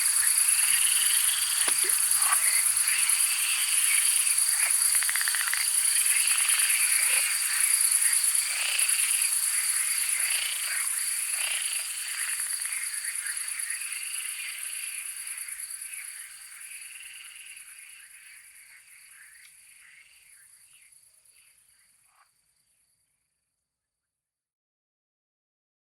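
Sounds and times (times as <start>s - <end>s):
frogs croaking: 0.0s - 23.0s
insects trilling: 0.0s - 23.0s.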